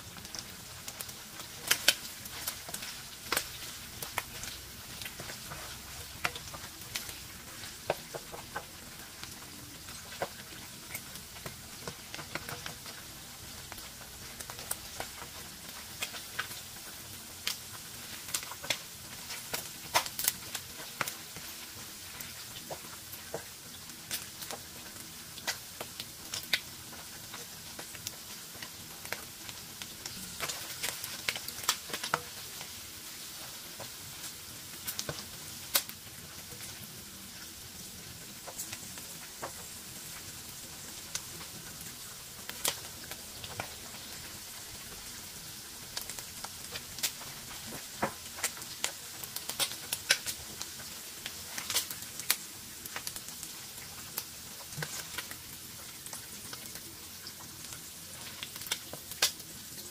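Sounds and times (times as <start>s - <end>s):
gizzards sizzling and popping: 0.0s - 59.9s.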